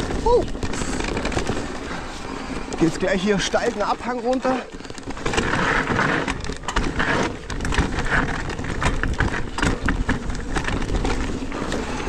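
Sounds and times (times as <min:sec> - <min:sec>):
bike parts rattling: 0:00.0 - 0:12.0
bike tyres rolling over dirt: 0:00.0 - 0:12.0.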